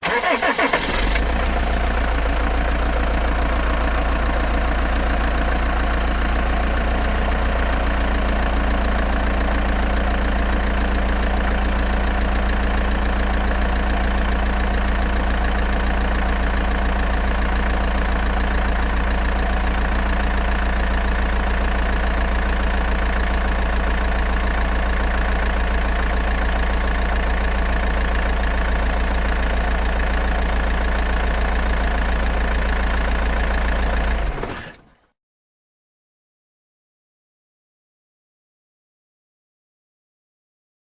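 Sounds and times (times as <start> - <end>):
diesel engine idling: 0.0 - 34.8.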